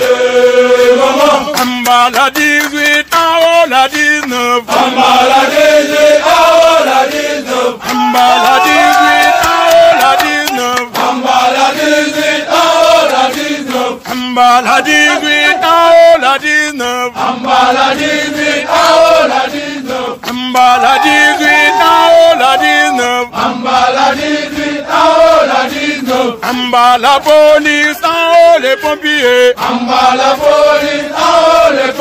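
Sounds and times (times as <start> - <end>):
group of voices chanting: 0.0 - 2.9, 3.5 - 32.0.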